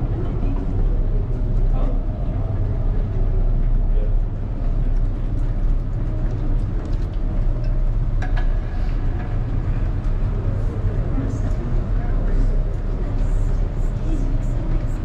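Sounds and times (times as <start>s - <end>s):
low rumble: 0.0s - 15.0s
murmur of people talking: 0.0s - 15.0s.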